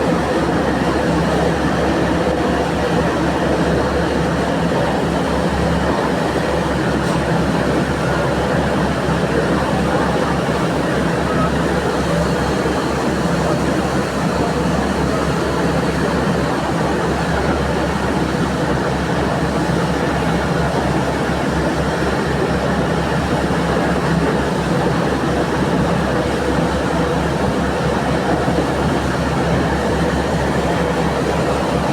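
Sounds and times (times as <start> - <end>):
boat engines running: 0.0 - 31.9.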